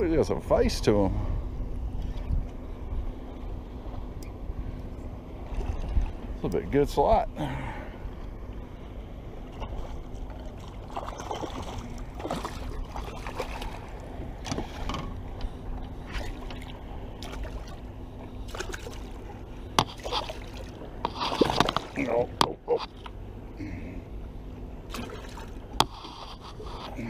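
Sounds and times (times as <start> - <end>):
steady low rumble: 0.0 - 27.0
water lapping against boat hull: 1.8 - 7.0, 7.8 - 27.0.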